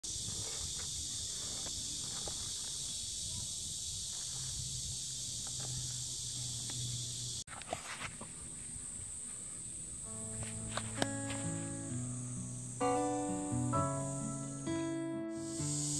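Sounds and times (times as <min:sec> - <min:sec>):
insects chirping in grass: 0:00.0 - 0:15.9.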